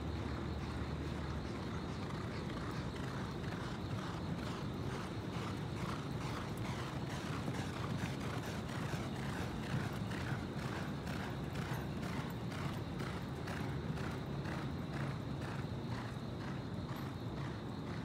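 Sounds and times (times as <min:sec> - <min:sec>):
horse hoofbeats galloping on dirt: 0:00.0 - 0:18.0.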